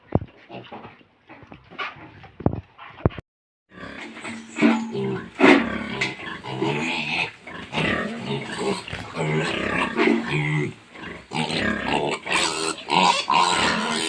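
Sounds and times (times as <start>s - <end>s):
pigs grunting and squealing: 0.3s - 2.2s, 3.7s - 14.0s.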